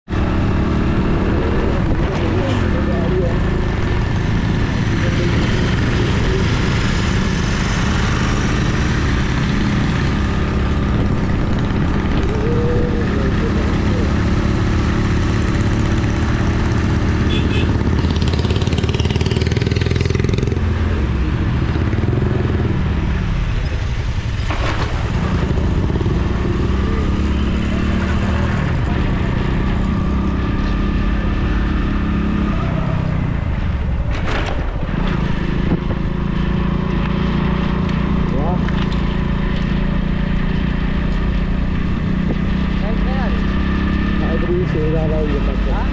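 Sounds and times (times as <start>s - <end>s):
wind and road noise: 0.0s - 45.9s
motorcycle engine revving: 0.1s - 45.9s.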